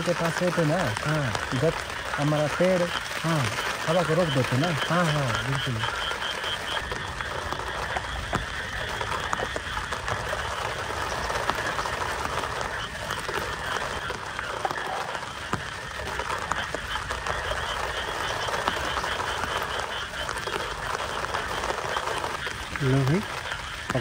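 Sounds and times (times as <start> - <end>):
falling rain: 0.0 - 24.0
frogs calling: 0.0 - 24.0.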